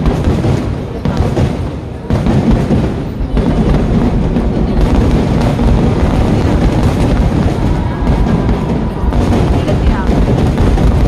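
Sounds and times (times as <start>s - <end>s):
fireworks barrage: 0.0s - 11.0s.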